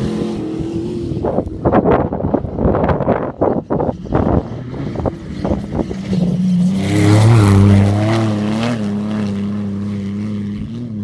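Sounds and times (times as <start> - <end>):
off-road vehicle engine passing: 0.0 - 11.0.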